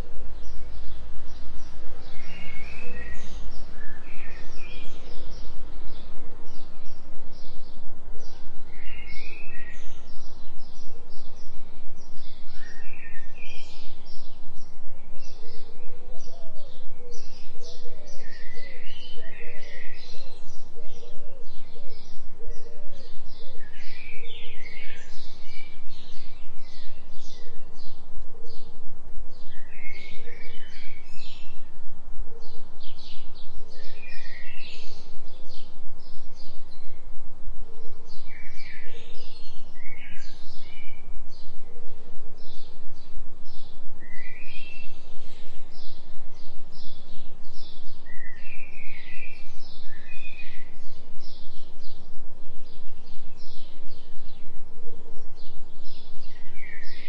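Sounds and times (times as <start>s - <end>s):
birds chirping and trilling: 0.0s - 57.0s
soft low bird calls: 0.0s - 57.0s.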